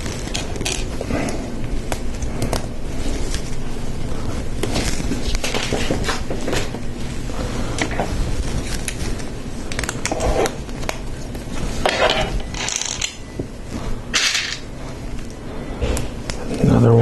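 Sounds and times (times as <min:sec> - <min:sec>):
scraping and rustling: 0:00.0 - 0:16.7.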